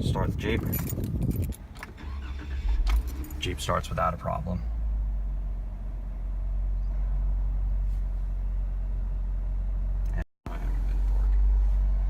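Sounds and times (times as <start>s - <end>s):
car engine idling: 1.9s - 12.0s.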